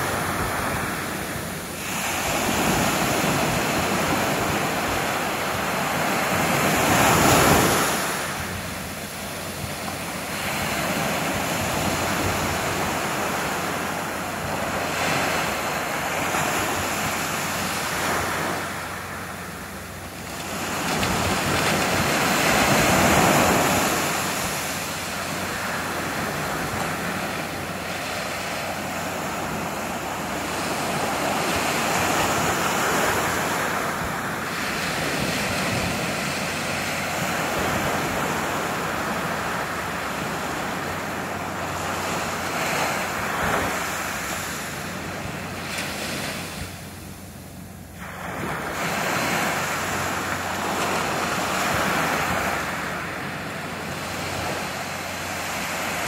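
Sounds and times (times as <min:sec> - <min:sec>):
ocean waves washing up beach: 0:00.0 - 0:56.0.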